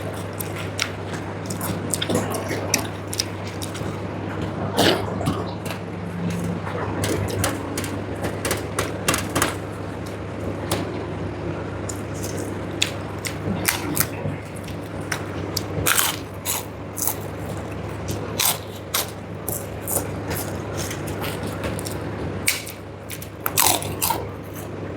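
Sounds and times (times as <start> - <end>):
mouth clicks and crunches: 0.0 - 8.7, 11.8 - 24.8
person chewing food: 0.0 - 8.7, 11.8 - 24.8
low hum: 0.0 - 23.5.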